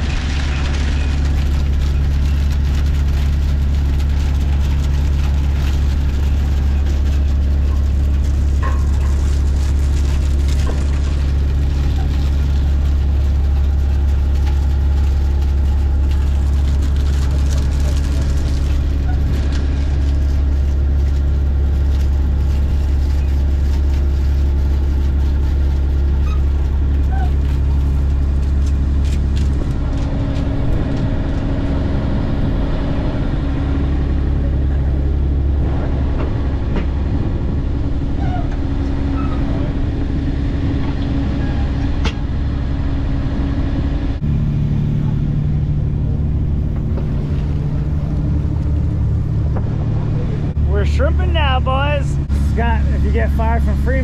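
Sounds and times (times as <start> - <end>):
diesel engine drone: 0.0 - 54.0.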